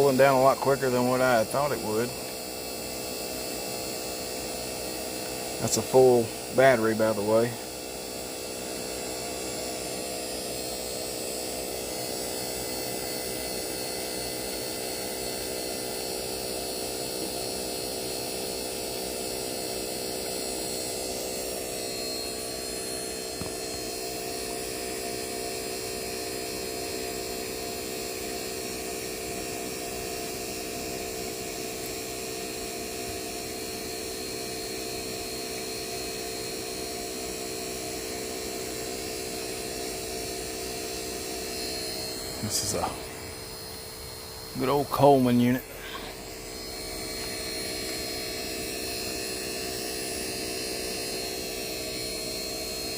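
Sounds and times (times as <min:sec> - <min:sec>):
vacuum pump motor humming: 0:00.0 - 0:52.9.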